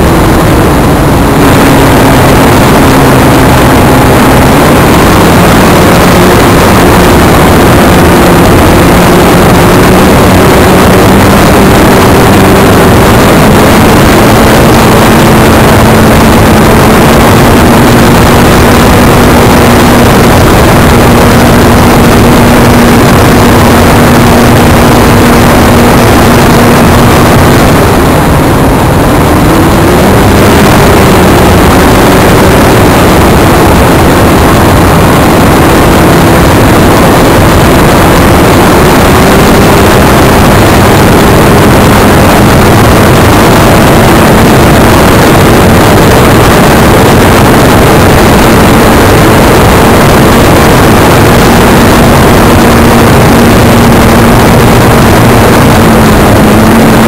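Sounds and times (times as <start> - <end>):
heavy wind noise: 0.0 - 57.0
model airplane motor drone: 0.0 - 57.0.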